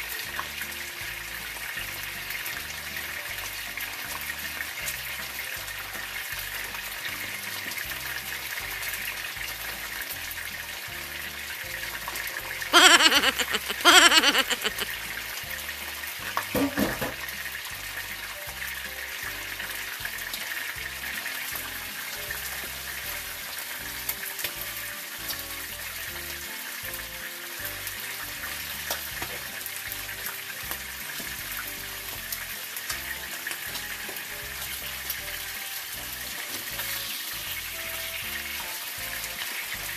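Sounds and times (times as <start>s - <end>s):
fish sizzling in hot oil: 0.0s - 12.6s, 15.0s - 39.9s.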